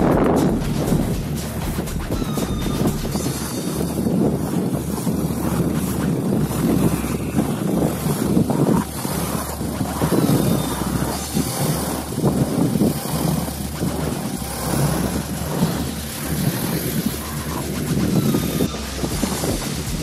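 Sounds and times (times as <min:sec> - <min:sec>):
vehicle engine running: 0:00.0 - 0:20.0
wind buffeting microphone: 0:00.0 - 0:20.0.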